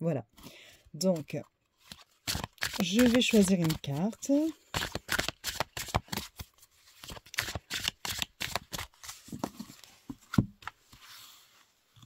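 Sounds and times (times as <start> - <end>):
cards being shuffled: 1.1 - 11.1.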